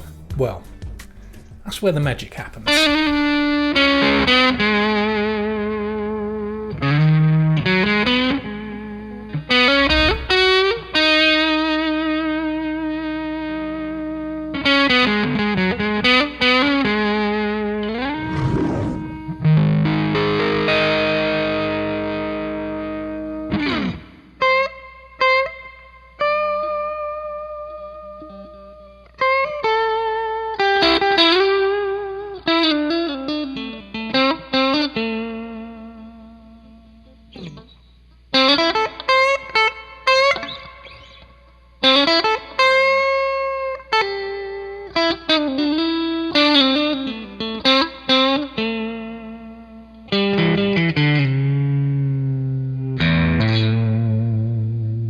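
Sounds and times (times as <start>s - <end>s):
overdriven electric guitar: 2.9s - 37.8s, 38.4s - 55.0s.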